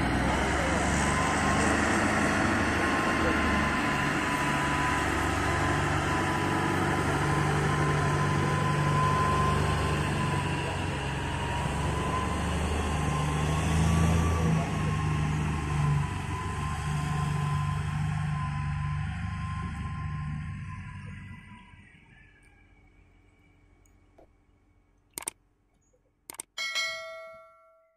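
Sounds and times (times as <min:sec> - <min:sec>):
heavy machinery low drone: 0:00.0 - 0:25.3.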